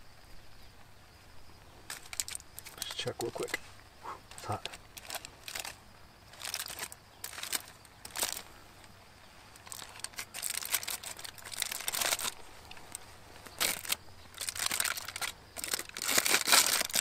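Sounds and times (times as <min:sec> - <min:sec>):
aluminium foil crinkling: 0:01.9 - 0:03.7, 0:04.3 - 0:08.6, 0:09.4 - 0:17.0.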